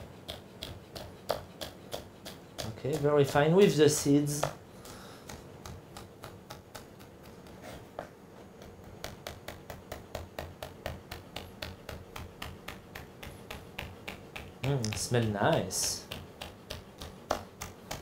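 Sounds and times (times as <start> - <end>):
knife chopping on chopping board: 0.0 - 7.9, 8.5 - 18.0.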